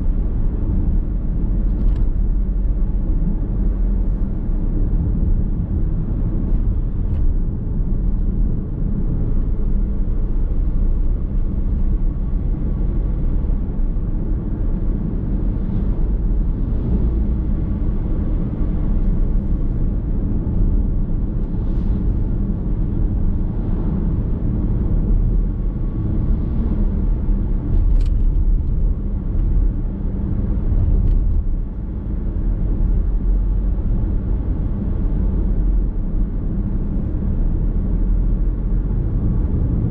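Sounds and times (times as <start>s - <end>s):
car cabin road noise: 0.0s - 39.9s.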